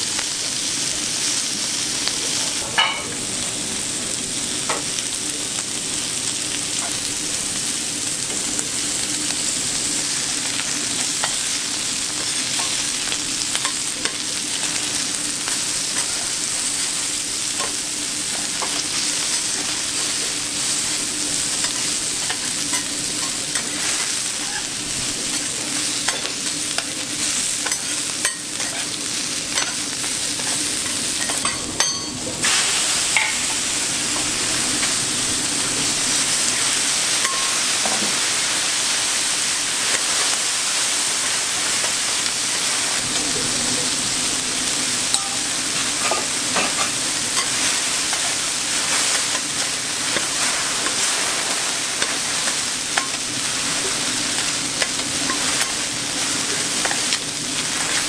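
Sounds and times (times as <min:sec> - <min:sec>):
food sizzling on a griddle: 0:00.0 - 0:58.0.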